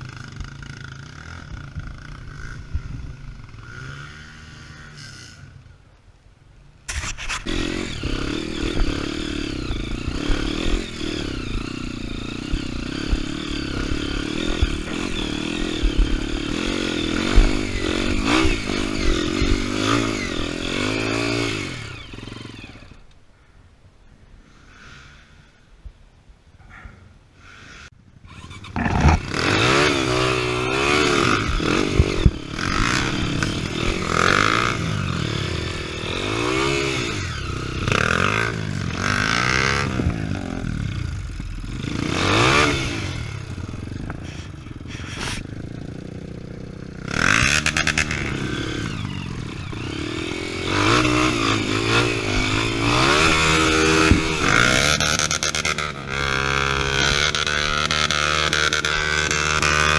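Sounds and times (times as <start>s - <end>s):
motorcycle engine revving: 0.0s - 5.8s, 6.9s - 23.0s, 27.6s - 59.9s.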